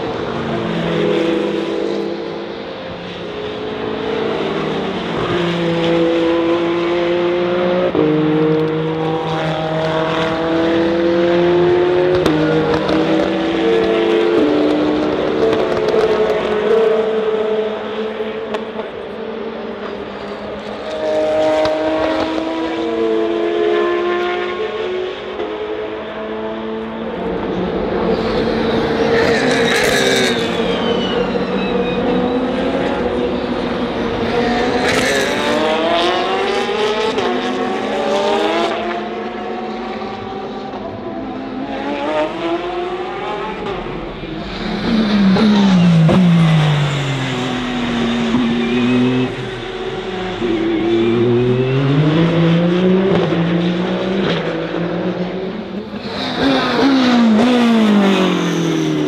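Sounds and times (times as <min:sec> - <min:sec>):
race cars passing at speed: 0:00.0 - 0:59.0.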